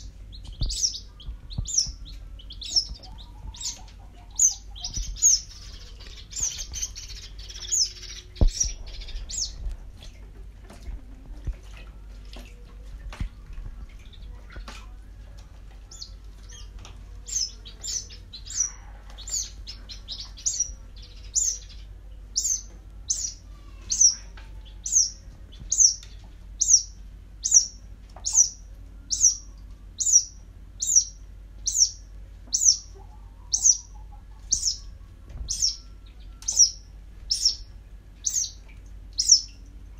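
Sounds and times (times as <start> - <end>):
bird chick peeping: 0.0 - 39.9.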